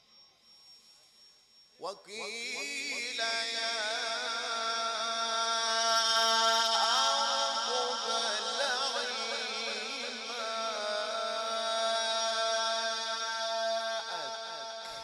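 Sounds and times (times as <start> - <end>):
man reciting melodically: 1.8 - 15.0.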